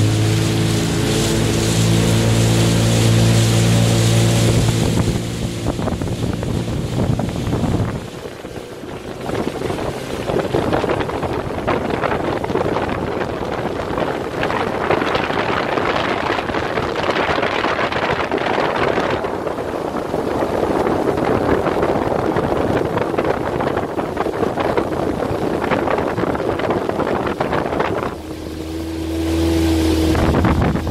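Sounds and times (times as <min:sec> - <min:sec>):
motorboat engine drone: 0:00.0 - 0:30.9
rushing water: 0:00.0 - 0:30.9
wind buffeting microphone: 0:00.0 - 0:30.9.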